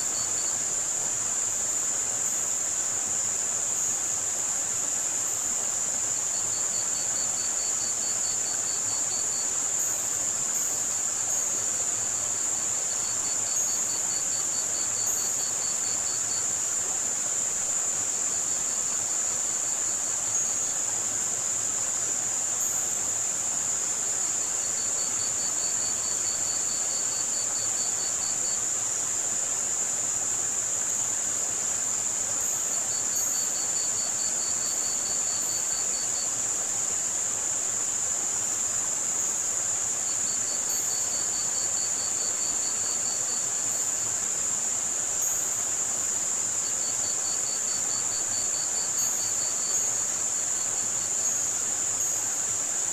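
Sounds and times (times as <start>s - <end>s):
crickets chirping: 0.0s - 52.9s
high-pitched white noise: 0.0s - 52.9s
running water hiss: 0.0s - 52.9s.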